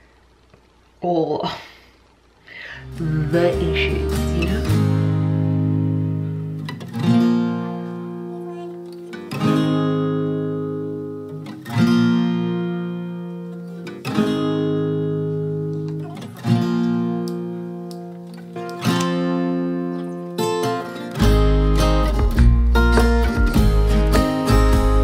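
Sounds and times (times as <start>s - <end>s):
acoustic guitar chords strummed: 2.8s - 25.0s.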